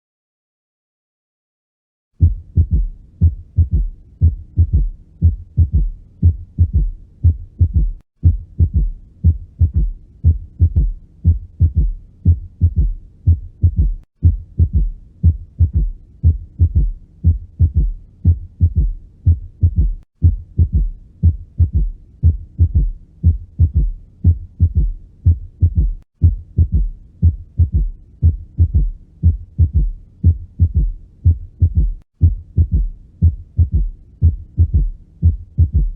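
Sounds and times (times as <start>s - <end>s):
heartbeat through stethoscope: 2.2s - 35.9s.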